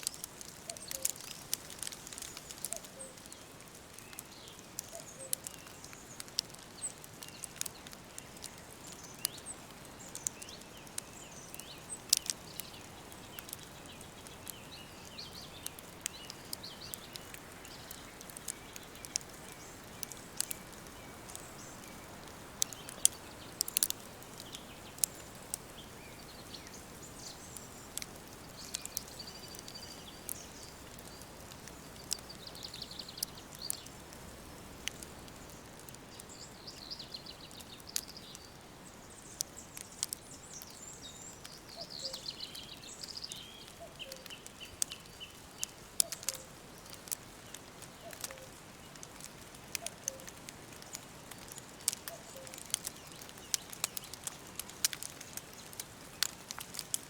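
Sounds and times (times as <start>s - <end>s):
faint birds chirping: 0.0s - 57.0s
sharp crackles and pops: 0.0s - 57.0s
soft hiss of breeze: 0.0s - 57.0s.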